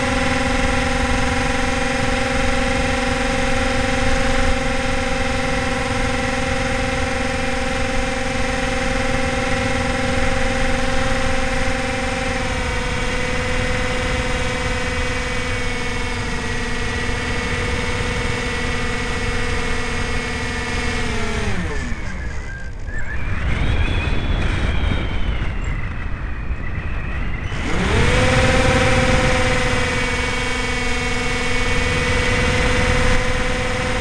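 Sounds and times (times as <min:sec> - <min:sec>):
electric motor and propeller whine: 0:00.0 - 0:34.0
wind rushing over microphone: 0:00.0 - 0:34.0.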